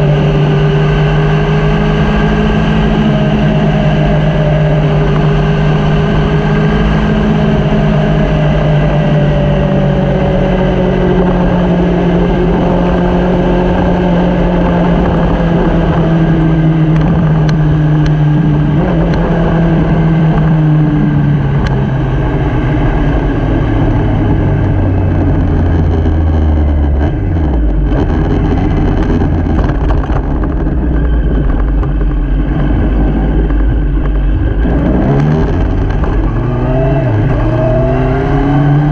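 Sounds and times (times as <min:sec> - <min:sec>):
motorcycle engine running: 0:00.0 - 0:38.9
wind rushing noise: 0:00.0 - 0:38.9.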